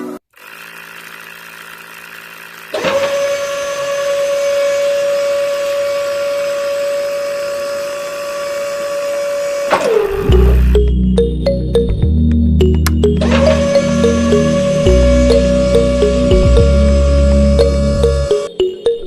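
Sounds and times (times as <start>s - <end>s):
electric motor whine: 0.0s - 10.8s, 13.2s - 18.5s.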